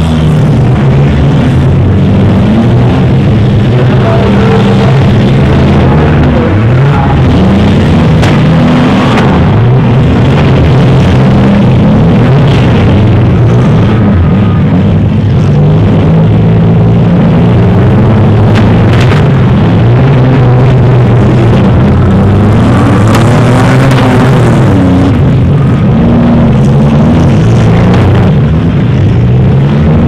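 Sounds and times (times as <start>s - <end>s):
car engines revving hard: 0.0s - 30.0s.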